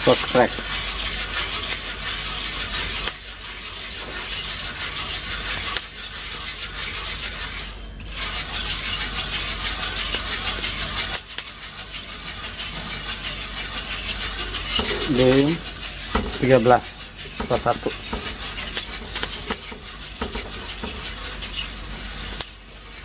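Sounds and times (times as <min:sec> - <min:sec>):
coffee beans tumbling in a drum: 0:00.0 - 0:23.0.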